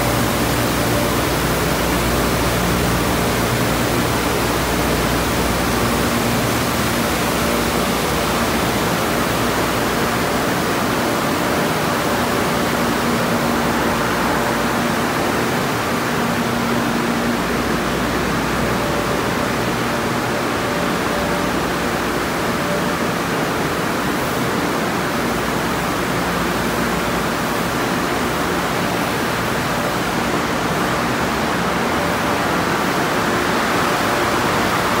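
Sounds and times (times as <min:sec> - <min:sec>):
faint hum of pumps and motors: 0:00.0 - 0:35.0.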